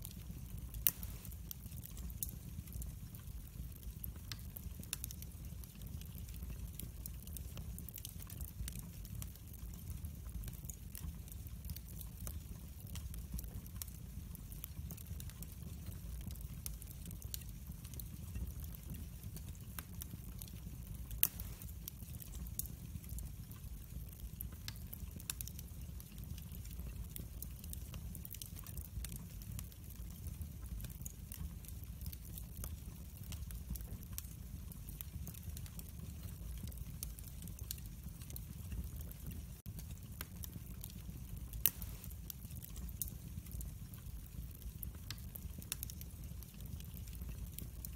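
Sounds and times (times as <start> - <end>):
fire low rumble: 0.0 - 47.9
logs crackling and popping: 0.0 - 47.9.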